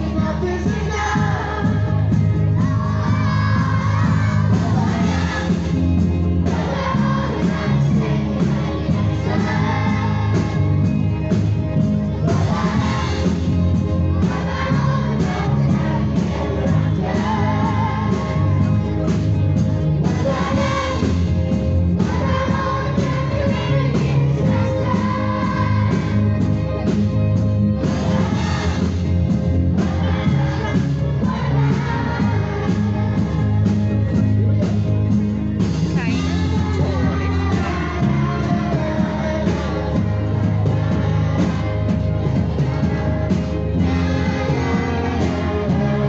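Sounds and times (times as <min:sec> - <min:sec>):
amplified person singing: 0:00.0 - 0:35.0, 0:35.8 - 0:46.0
backing track with steady beat: 0:00.0 - 0:46.0.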